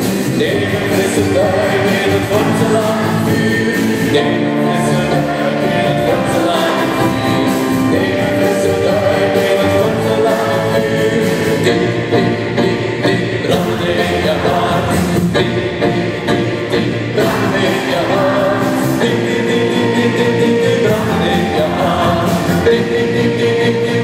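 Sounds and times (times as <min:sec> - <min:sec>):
crowd singing along: 0:00.0 - 0:24.0
live band with keyboard and drums: 0:00.0 - 0:24.0.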